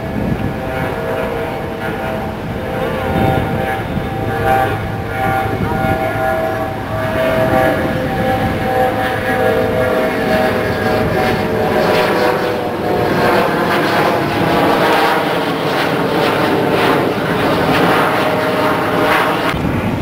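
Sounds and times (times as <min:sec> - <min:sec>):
loud engine drone: 0:00.0 - 0:20.0.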